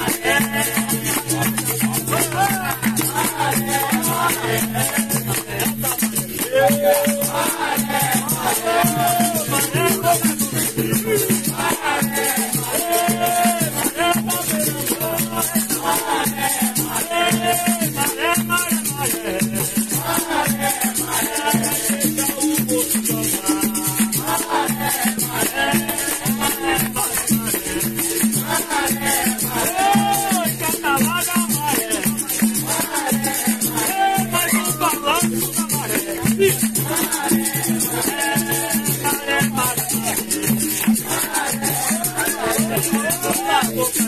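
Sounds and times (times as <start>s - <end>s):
berimbau rhythm: 0.0s - 44.0s
shaker rattle: 0.0s - 44.0s
voices singing: 0.0s - 44.0s.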